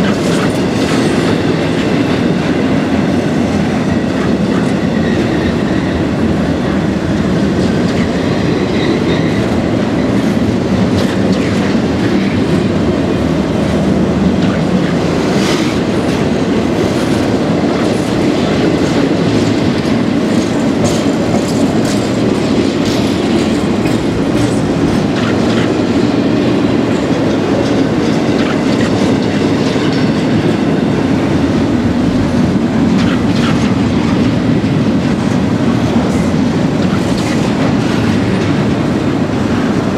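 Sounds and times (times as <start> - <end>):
freight cars rumbling: 0.0 - 39.9
wheels clacking over rail joints: 0.0 - 39.9.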